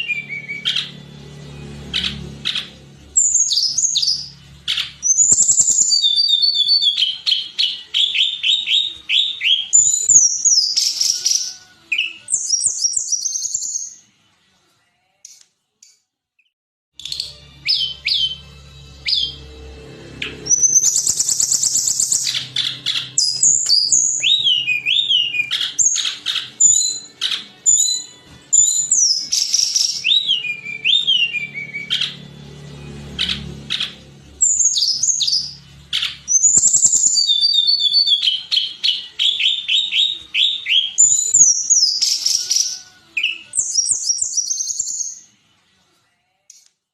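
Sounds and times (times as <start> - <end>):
bird whistling and trilling: 0.0 - 1.0, 1.9 - 14.0, 17.0 - 18.4, 19.0 - 19.4, 20.2 - 32.3, 33.2 - 45.3.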